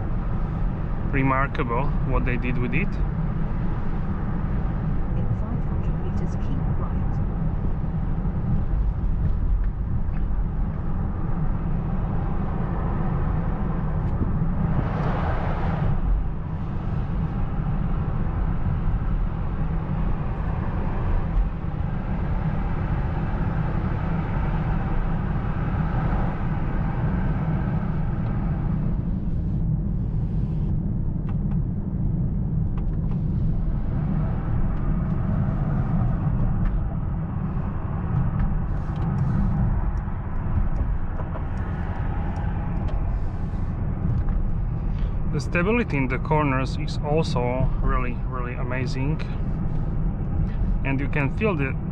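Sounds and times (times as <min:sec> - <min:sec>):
car engine and exhaust rumble: 0:00.0 - 0:51.9
tyre and road noise: 0:00.0 - 0:51.9.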